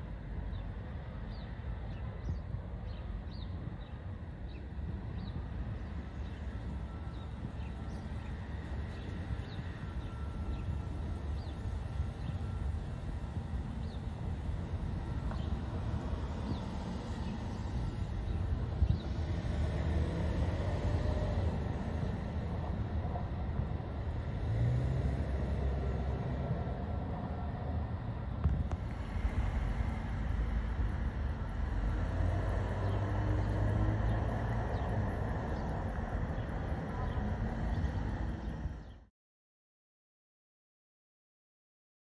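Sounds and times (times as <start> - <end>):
low outdoor rumble: 0.0 - 39.1.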